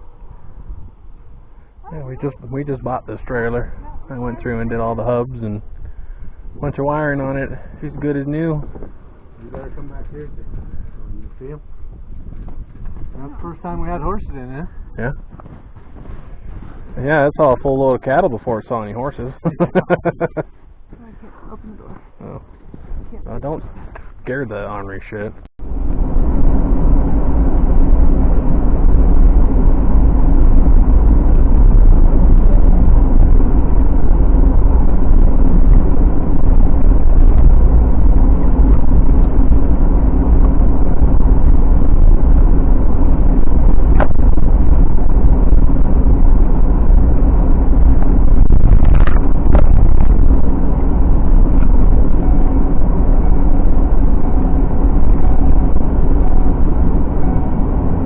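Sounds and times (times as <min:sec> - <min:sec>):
engine and road rumble: 0:00.0 - 0:58.0.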